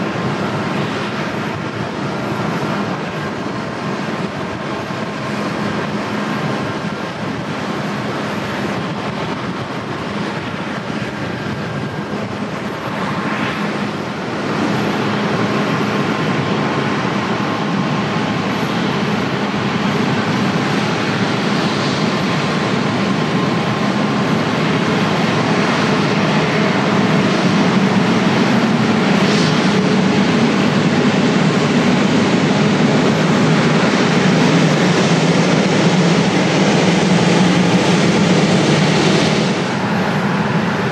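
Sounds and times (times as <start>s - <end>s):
jet engines at high power: 0.0s - 40.9s.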